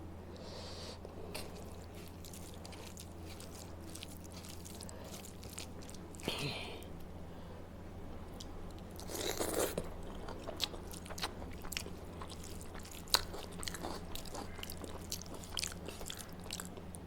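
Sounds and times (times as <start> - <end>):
steady low hum: 0.0 - 17.0
person chewing food: 1.0 - 7.1, 8.2 - 17.0.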